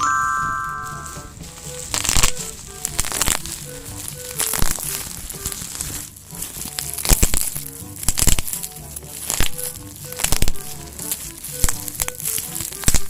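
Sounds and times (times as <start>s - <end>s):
background music: 0.0s - 13.0s
plastic packaging crinkling: 0.8s - 13.0s.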